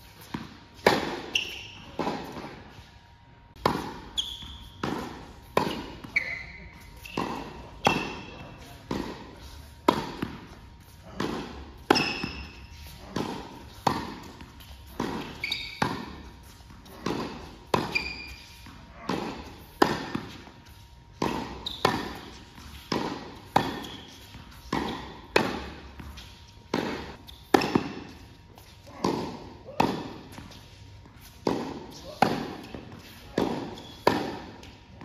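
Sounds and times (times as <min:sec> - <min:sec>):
shoes squeaking on court: 0:00.0 - 0:29.0, 0:29.7 - 0:35.0
rackets hitting tennis ball: 0:00.0 - 0:35.0.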